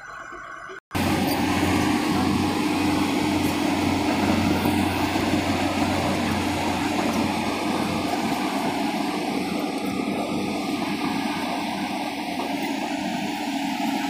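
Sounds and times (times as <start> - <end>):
excavator diesel engines droning: 0.9 - 14.0.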